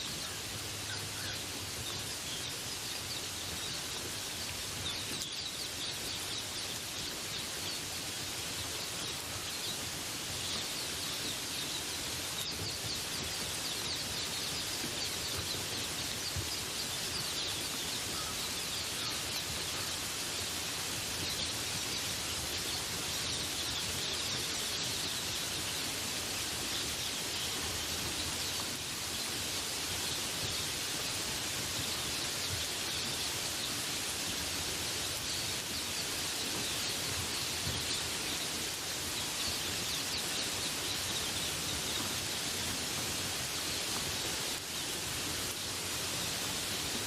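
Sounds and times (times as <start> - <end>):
faint birds chirping: 0.0 - 47.0
rain falling: 0.0 - 47.0.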